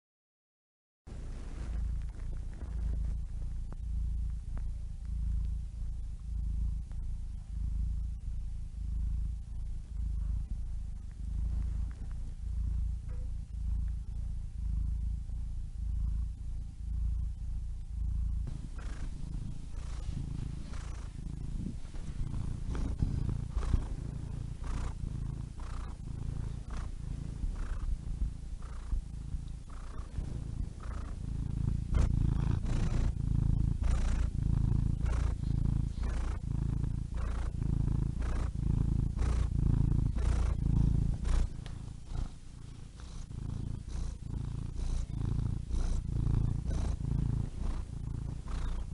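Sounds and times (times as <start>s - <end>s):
cat purring: 1.1s - 48.9s.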